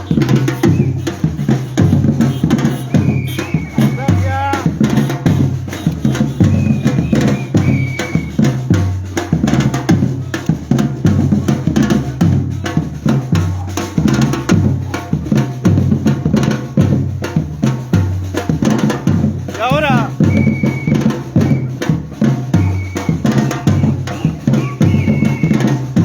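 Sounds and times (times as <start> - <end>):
deep bass drums: 0.0 - 26.0
snare and hand drum strokes: 0.0 - 26.0.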